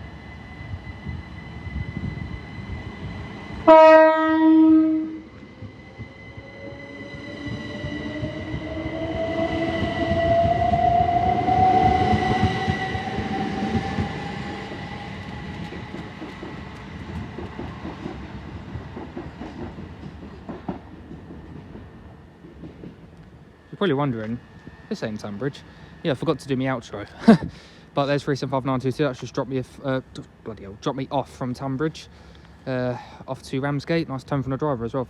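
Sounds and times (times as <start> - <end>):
wheel and rail rumble: 0.0 - 35.0.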